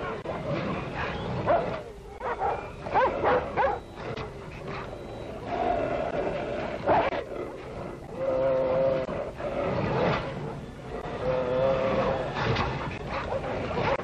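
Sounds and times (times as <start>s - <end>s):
dog and wolf fighting: 0.0s - 14.0s.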